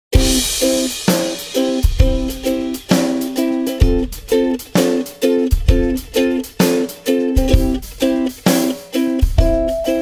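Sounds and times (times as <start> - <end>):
low beat: 0.2 - 10.0
plucked-string chords: 0.2 - 10.0.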